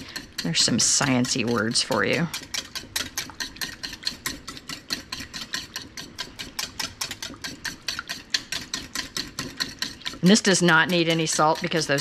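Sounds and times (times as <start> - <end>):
wire whisk clicking against bowl: 0.0 - 12.0.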